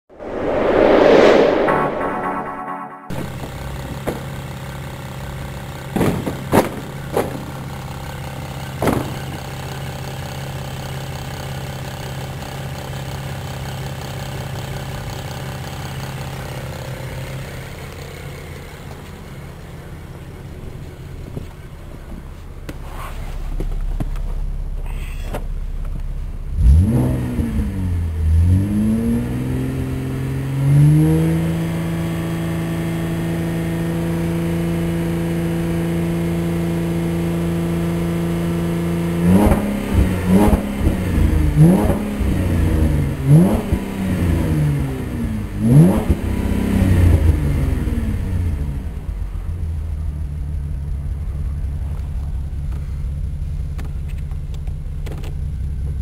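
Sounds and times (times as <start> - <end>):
car engine idling and revving: 3.2 - 56.0.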